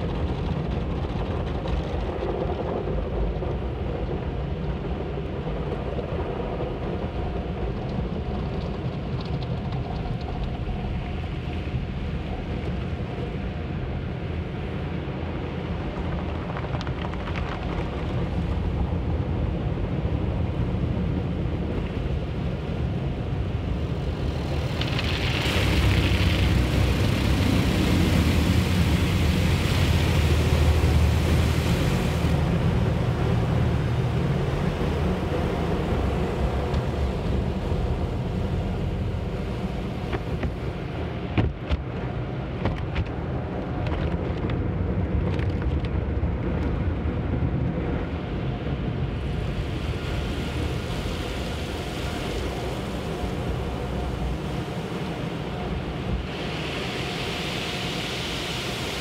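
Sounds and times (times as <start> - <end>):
car wash machinery rumble: 0.0 - 59.0
water washing over car: 0.0 - 59.0.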